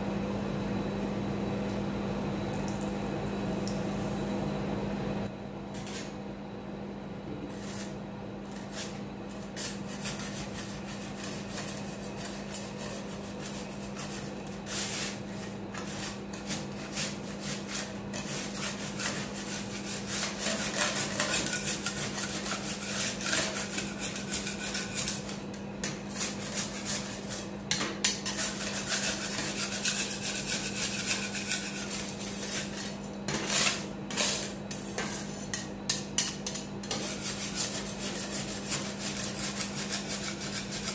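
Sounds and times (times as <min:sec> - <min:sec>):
steady low hum: 0:00.0 - 0:40.9
metal spatulas scraping: 0:07.5 - 0:40.9.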